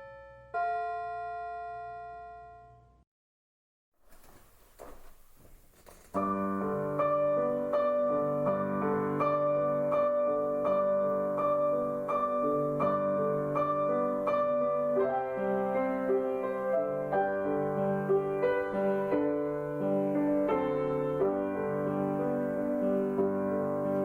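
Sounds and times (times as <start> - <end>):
gentle piano music: 0.0 - 3.0, 6.2 - 24.0.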